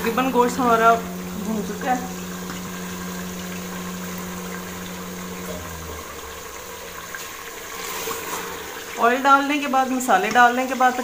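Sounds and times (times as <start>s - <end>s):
steady low hum: 0.0s - 9.0s
curry bubbling and sizzling: 0.0s - 11.0s.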